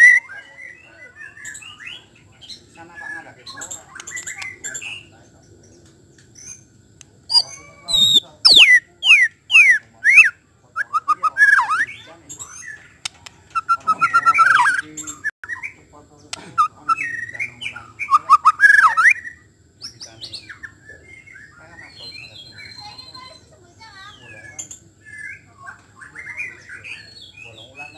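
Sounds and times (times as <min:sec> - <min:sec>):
bird singing whistles and warbles: 0:00.0 - 0:06.7, 0:07.3 - 0:15.9, 0:16.5 - 0:27.9.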